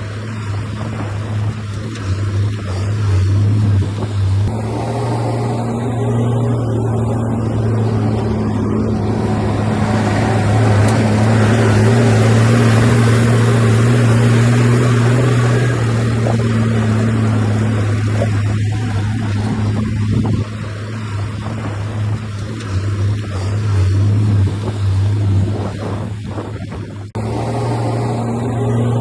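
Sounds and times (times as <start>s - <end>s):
bulldozer diesel engine droning: 0.0s - 29.0s.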